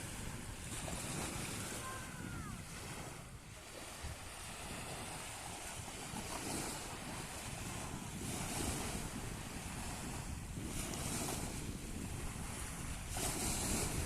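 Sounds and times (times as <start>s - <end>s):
sea waves washing in: 0.0s - 14.0s
wind buffeting microphone: 0.0s - 14.0s.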